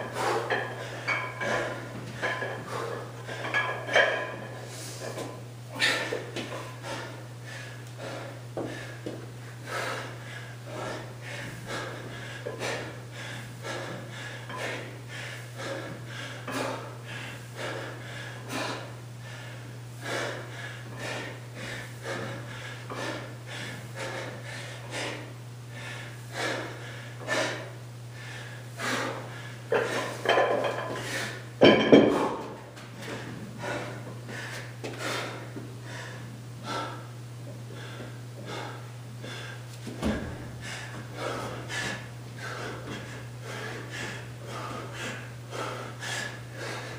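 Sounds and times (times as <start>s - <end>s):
man breathing hard: 0.0s - 46.9s
steady low hum: 0.0s - 46.9s.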